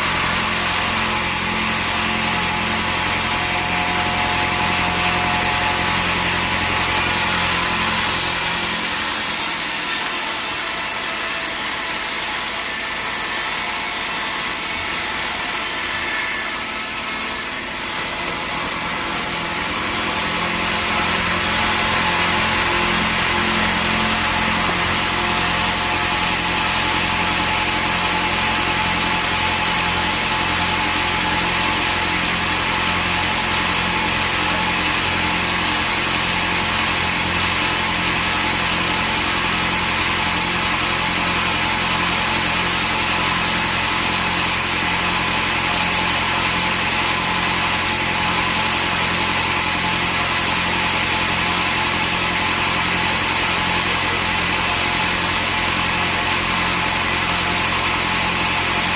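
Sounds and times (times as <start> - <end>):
sawmill machinery drone: 0.0 - 58.9.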